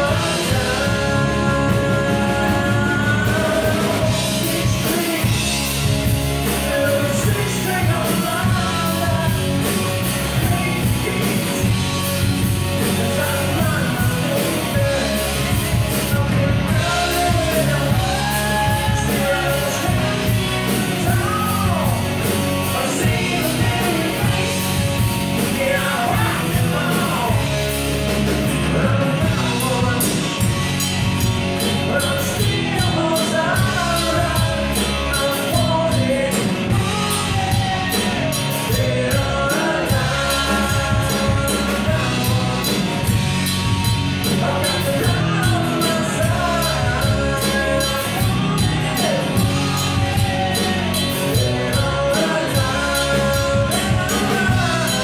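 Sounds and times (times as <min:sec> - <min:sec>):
drum kit: 0:00.0 - 0:55.0
electric bass: 0:00.0 - 0:55.0
electric guitars: 0:00.0 - 0:55.0
male singer: 0:00.0 - 0:55.0.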